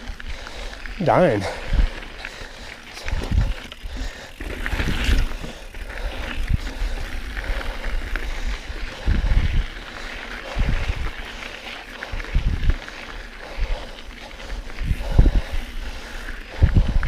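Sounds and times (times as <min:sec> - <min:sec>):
bike rattling and clicking: 0:00.0 - 0:17.0
wind rumble on microphone: 0:03.0 - 0:17.0.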